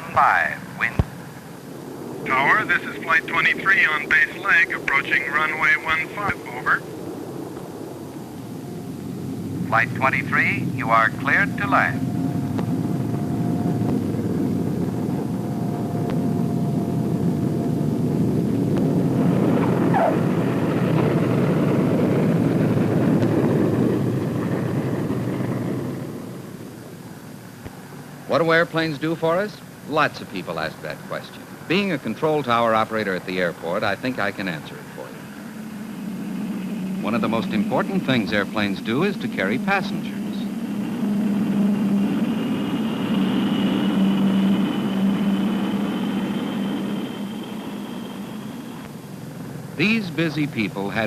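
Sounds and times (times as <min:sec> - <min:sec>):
airplane engines running loud: 0:00.0 - 0:51.0.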